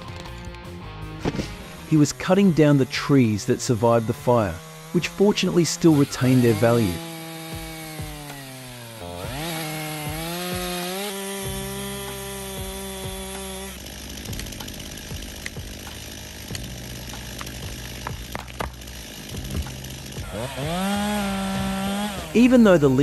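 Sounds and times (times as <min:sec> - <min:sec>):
chainsaw running under load: 0:01.2 - 0:23.0.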